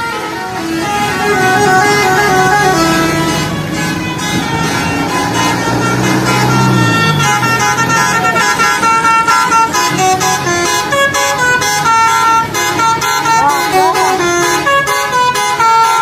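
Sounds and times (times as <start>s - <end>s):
musical bus horn playing a tune: 0.0s - 16.0s
passing vehicle engine: 0.0s - 16.0s.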